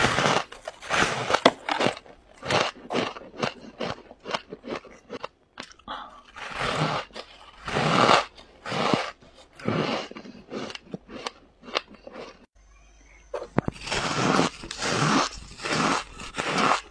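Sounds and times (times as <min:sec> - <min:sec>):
frost being chewed crunching: 0:00.0 - 0:12.5, 0:13.6 - 0:16.9.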